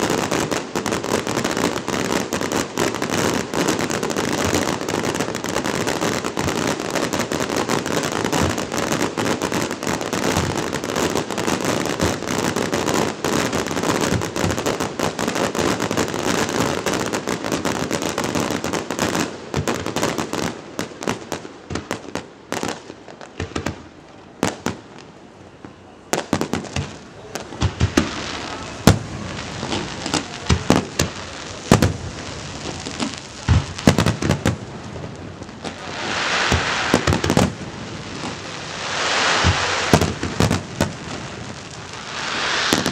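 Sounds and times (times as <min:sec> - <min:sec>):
fireworks bangs and crackle: 0:00.0 - 0:42.9.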